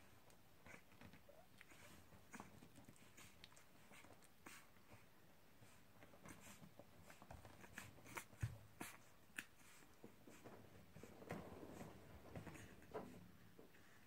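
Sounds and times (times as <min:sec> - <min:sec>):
puppies rustling on blanket: 0:00.0 - 0:14.0
puppies snuffling: 0:00.0 - 0:14.0.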